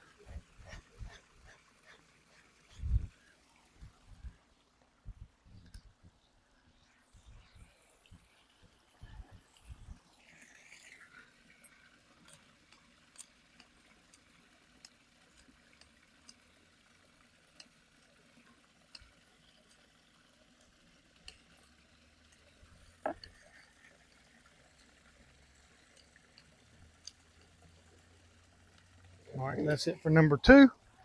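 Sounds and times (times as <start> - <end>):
faint ticks and clicks: 0.0 - 29.7.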